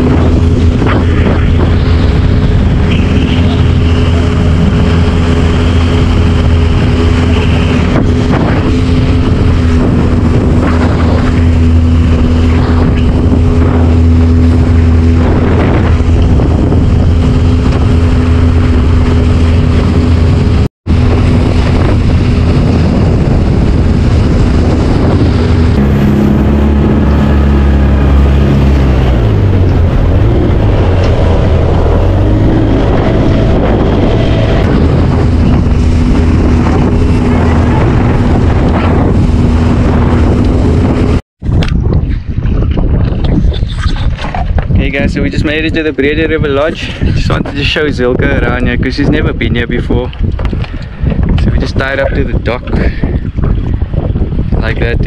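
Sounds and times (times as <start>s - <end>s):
motorboat engine running: 0.0s - 55.0s
wind on microphone: 0.0s - 55.0s.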